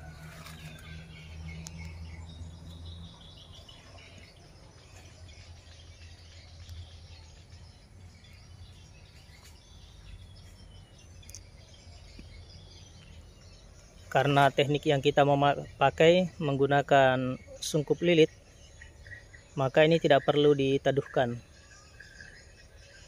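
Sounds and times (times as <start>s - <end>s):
birds calling: 0.0s - 23.0s
insects chirping: 0.0s - 23.0s.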